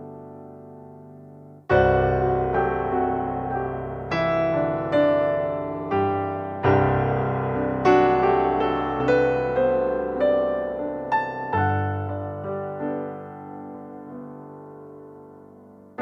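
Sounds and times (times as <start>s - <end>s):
piano notes: 0.0s - 16.0s.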